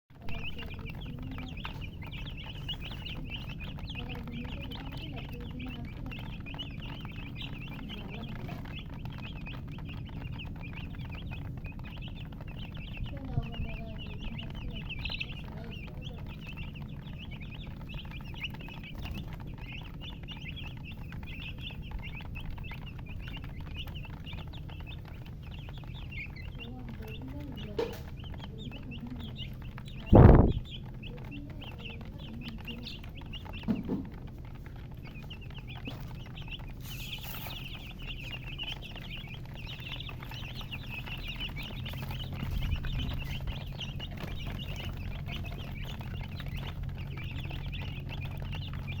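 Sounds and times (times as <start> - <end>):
baby chicks peeping: 0.0 - 49.0.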